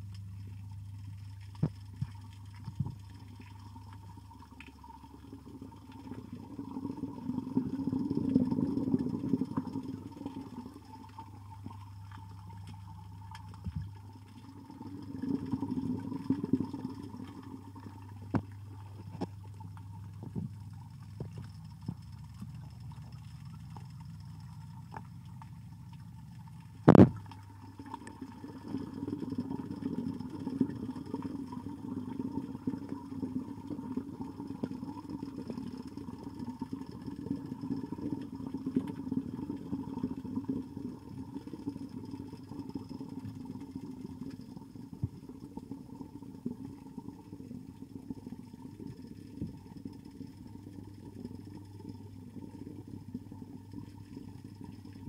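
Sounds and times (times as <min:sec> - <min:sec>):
underwater churning rumble: 0:00.0 - 0:55.0.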